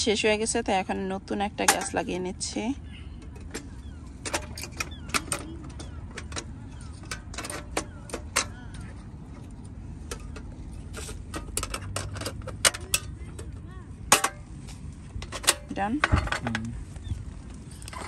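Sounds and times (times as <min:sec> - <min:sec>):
faint voices: 0:00.0 - 0:18.0.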